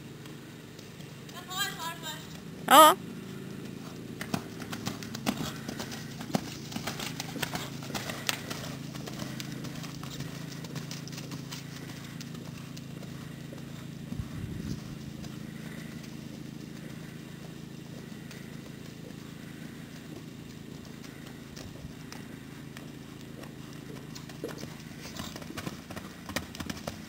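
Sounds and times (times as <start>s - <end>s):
hoofbeats on sand: 3.6s - 27.0s.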